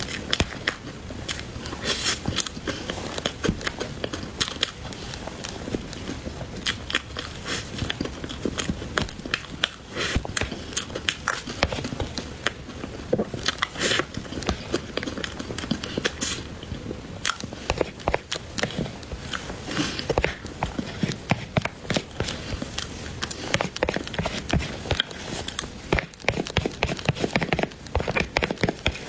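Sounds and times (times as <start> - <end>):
biting and chewing cake: 0.0 - 29.0.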